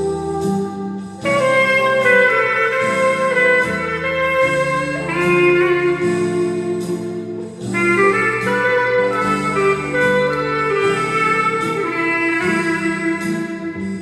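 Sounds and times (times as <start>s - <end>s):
clarinet playing slow hymn: 0.0s - 14.0s
sustained lower accompaniment: 0.0s - 14.0s.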